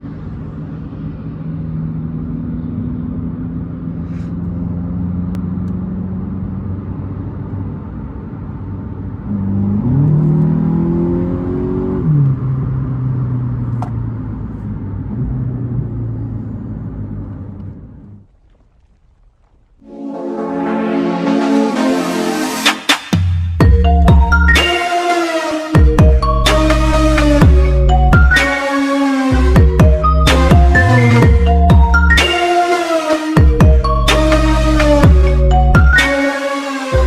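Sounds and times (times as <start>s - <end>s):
car engine running and revving: 0.0s - 18.6s, 23.6s - 37.0s.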